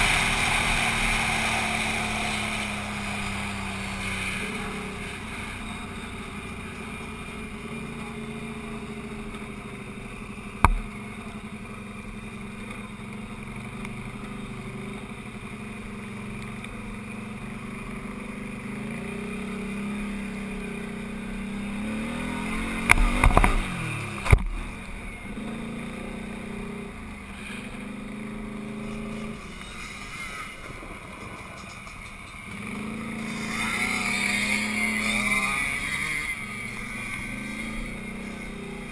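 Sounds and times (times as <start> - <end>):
quad engine running: 0.0 - 38.9.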